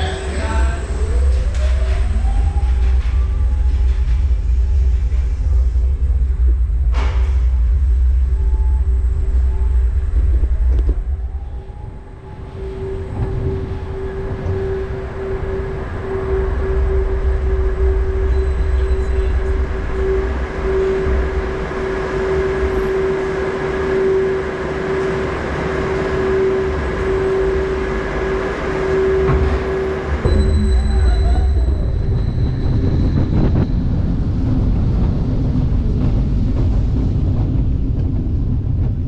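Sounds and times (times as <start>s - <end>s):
low rumble: 0.0s - 39.0s
roller coaster train moving: 0.0s - 39.0s
steady hum: 0.0s - 39.0s.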